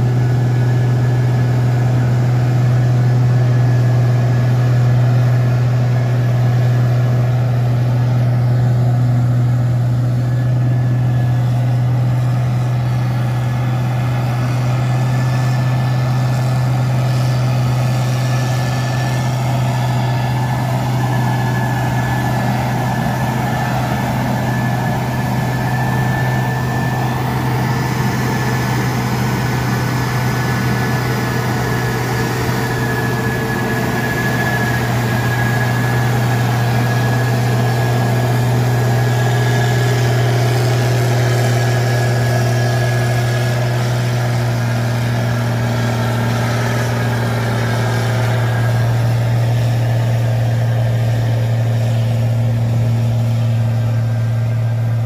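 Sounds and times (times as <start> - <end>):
diesel engine droning: 0.0 - 55.0
thin steady whine: 0.0 - 55.0.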